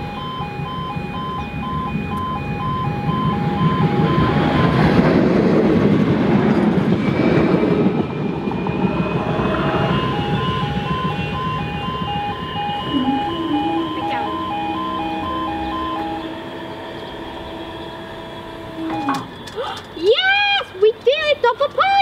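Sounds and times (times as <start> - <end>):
two-tone crossing alarm beeping: 0.0 - 20.2
tram passing: 0.0 - 22.0.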